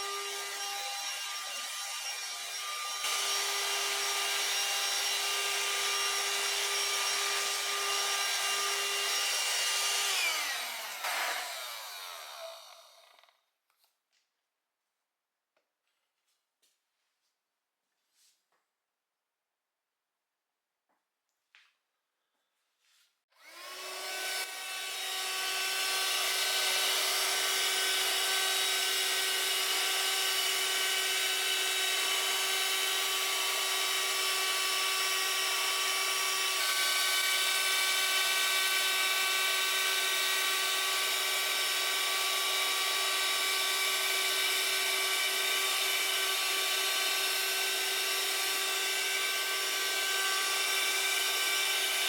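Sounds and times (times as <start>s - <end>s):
hand-held vacuum cleaner whining: 0.0s - 13.4s, 23.3s - 52.0s.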